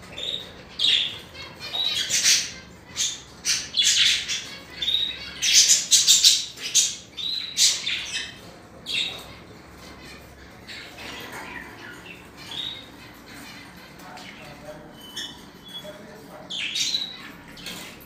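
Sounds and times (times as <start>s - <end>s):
budgerigar chattering: 0.1s - 17.8s.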